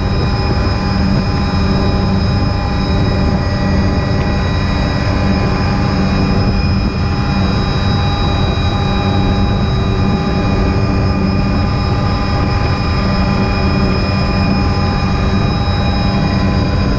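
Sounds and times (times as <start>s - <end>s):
constant whining tones: 0.0s - 16.9s
helicopter rotor and turbine drone: 0.0s - 16.9s
rushing wind noise: 0.0s - 16.9s.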